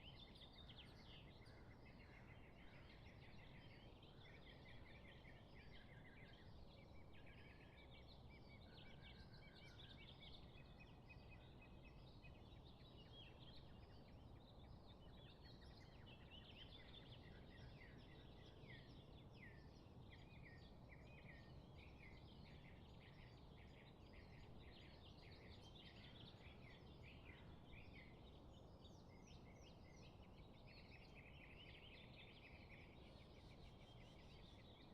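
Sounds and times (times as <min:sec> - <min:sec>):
faint low background hiss: 0:00.0 - 0:34.9
small birds chirping and trilling: 0:00.0 - 0:34.9.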